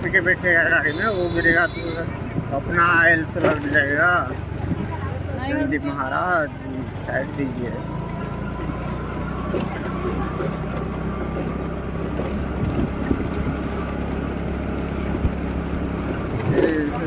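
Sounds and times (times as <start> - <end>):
motor scooter engine running: 0.0 - 17.0.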